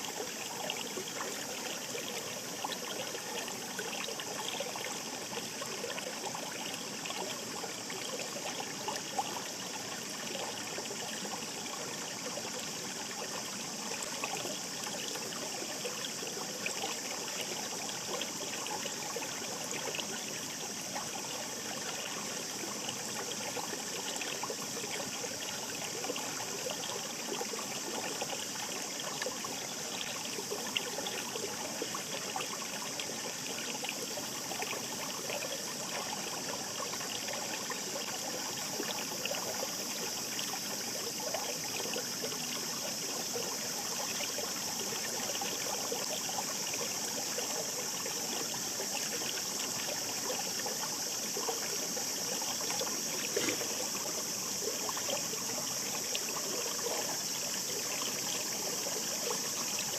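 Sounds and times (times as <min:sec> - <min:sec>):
stream babbling: 0:00.0 - 0:59.9.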